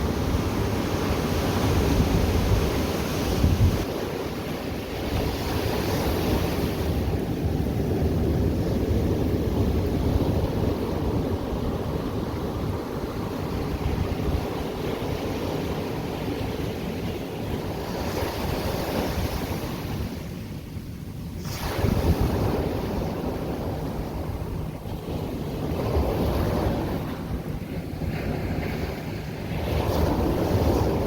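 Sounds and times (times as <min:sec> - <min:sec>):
waves breaking on shore: 0:00.0 - 0:31.0
wind rumbling on microphone: 0:00.0 - 0:31.0.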